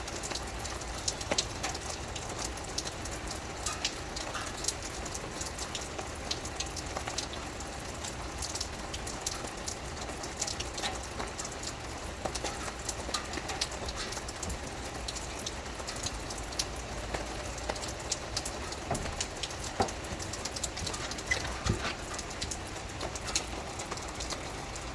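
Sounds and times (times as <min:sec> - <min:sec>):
raindrops ticking on hard surface: 0:00.0 - 0:24.9
steady rain: 0:00.0 - 0:24.9.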